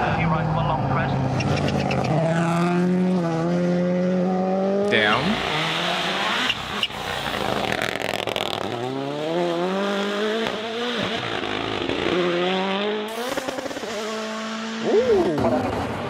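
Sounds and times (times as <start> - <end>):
rally car engine upshifting: 1.1 - 16.0.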